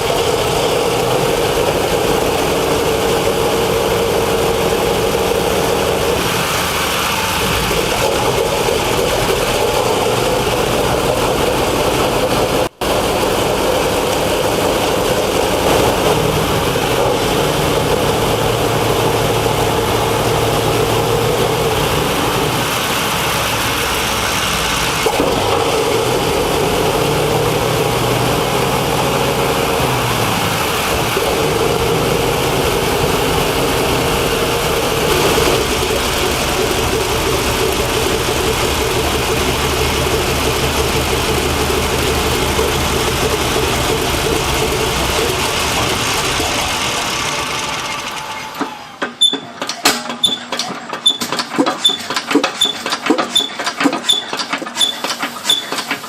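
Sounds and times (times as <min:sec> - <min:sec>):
old engine running: 0:00.0 - 0:49.2.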